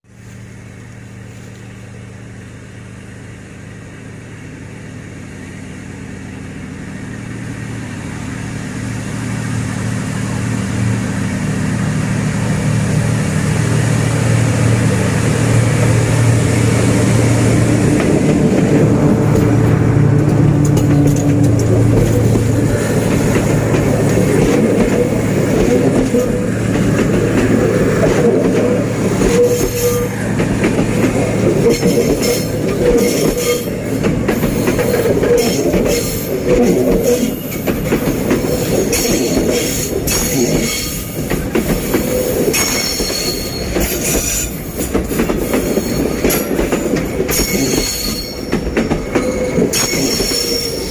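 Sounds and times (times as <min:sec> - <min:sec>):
diesel locomotive engine drone: 0:00.0 - 0:50.9
wheel-on-rail noise: 0:00.0 - 0:50.9.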